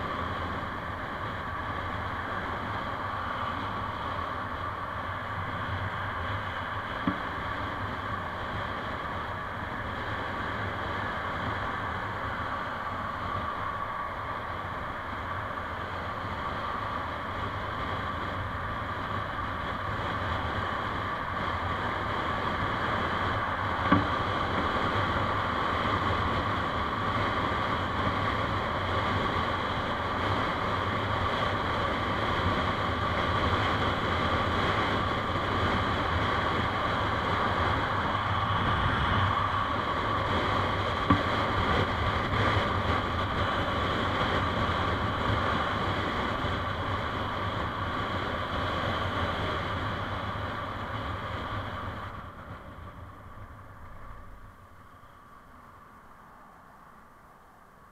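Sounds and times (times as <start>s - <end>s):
hum and whine: 0.0s - 57.9s
vehicle wind and road noise: 0.0s - 57.9s.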